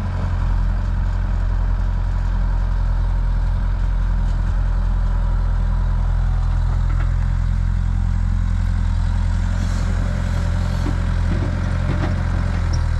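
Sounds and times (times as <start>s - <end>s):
diesel engine running at low revs: 0.0s - 12.9s.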